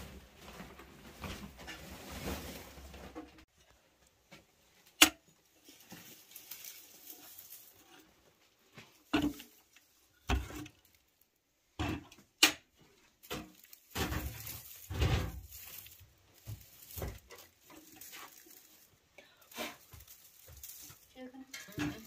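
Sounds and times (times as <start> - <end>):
straw rustling: 0.0 - 22.0.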